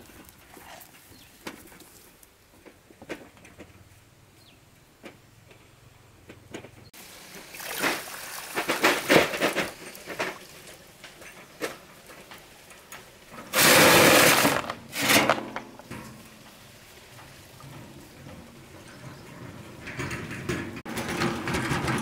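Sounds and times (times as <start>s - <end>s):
wheelbarrow rattling on rough ground: 0.0s - 4.1s, 6.2s - 22.0s.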